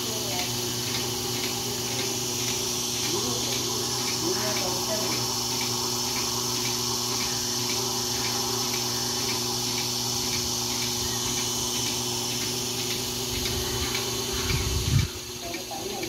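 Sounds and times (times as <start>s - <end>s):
faint rhythmic pulsator click: 0.0s - 16.0s
small petrol engine and vacuum pump: 0.0s - 16.0s.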